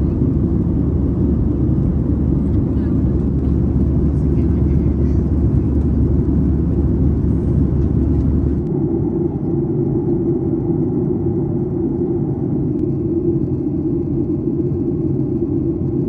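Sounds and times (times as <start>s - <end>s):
airplane cabin engine rumble: 0.0s - 16.0s
steady higher hum: 0.0s - 16.0s.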